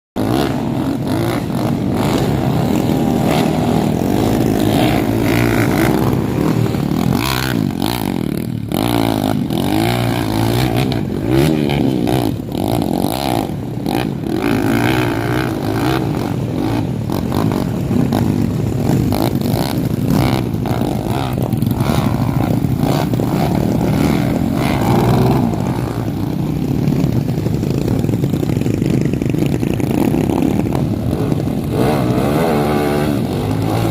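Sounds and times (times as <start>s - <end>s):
dirt bike engine revving: 0.2s - 33.9s.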